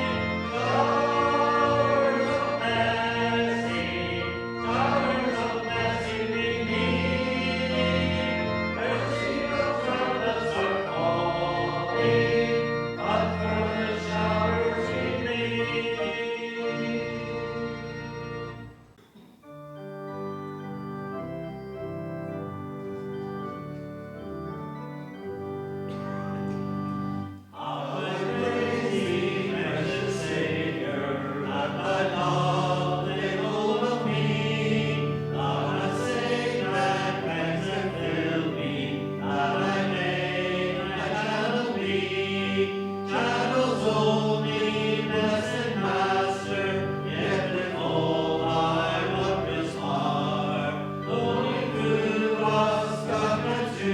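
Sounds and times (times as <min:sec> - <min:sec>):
congregation singing: 0:00.0 - 0:19.4, 0:20.4 - 0:53.9
organ playing held chords: 0:00.0 - 0:53.9.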